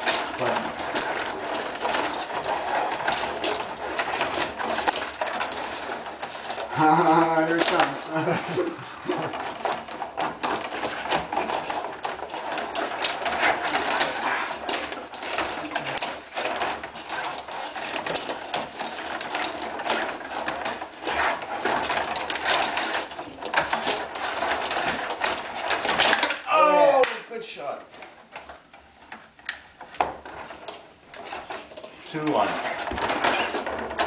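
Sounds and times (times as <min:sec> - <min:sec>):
control rods clattering: 0:00.0 - 0:34.0
plastic players rattling: 0:00.0 - 0:34.0.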